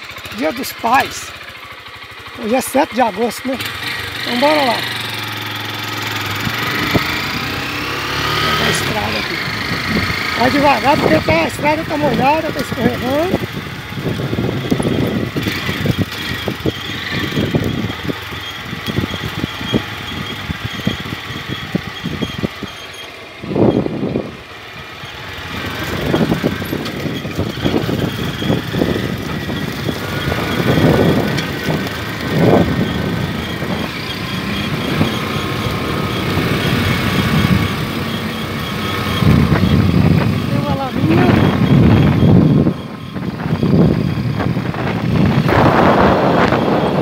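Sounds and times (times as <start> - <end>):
motorcycle engine revving: 0.0 - 47.0
bike knocking and rattling: 8.9 - 47.0.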